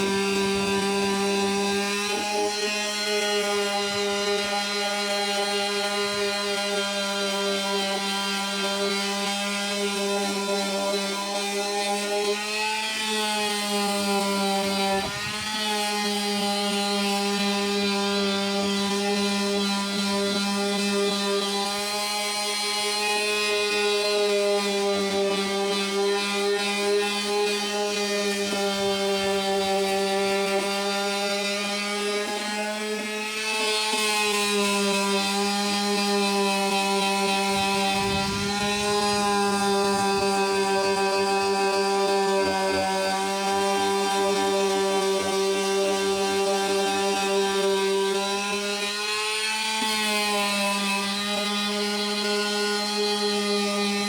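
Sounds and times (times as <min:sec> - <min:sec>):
power sander on wood: 0:00.0 - 0:54.0.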